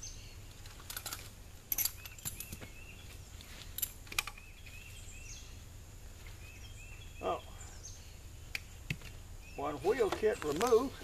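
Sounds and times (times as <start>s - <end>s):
bird chirping: 0.0s - 1.1s, 1.7s - 11.0s.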